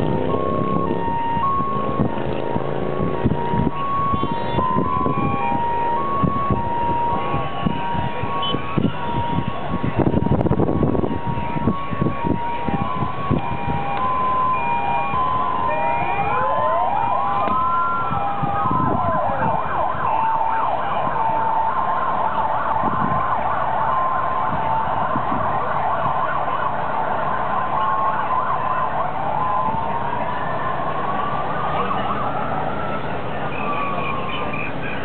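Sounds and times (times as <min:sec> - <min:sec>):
city street traffic: 0:00.0 - 0:35.0
two-tone siren: 0:00.0 - 0:35.0
wailing police sirens: 0:00.0 - 0:35.0
warbling siren yelp: 0:00.0 - 0:35.0.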